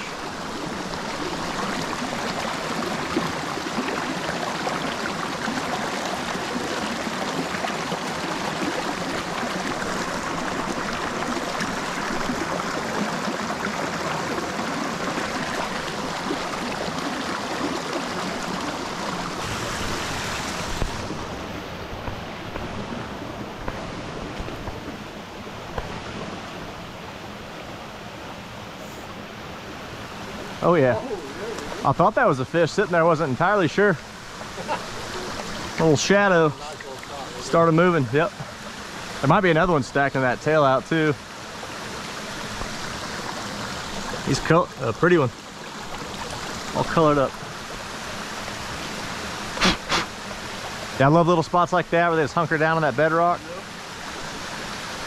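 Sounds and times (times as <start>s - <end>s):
creek babbling over rocks: 0.0s - 55.0s.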